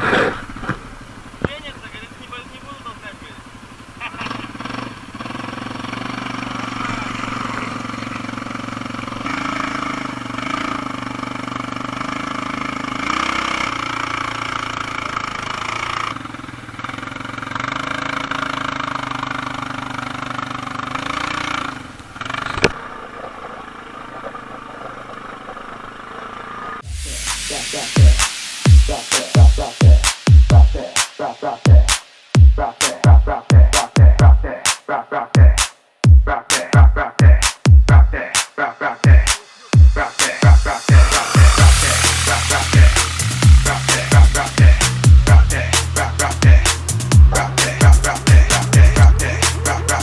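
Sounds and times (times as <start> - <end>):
quad bike engine revving: 0.0 - 50.0.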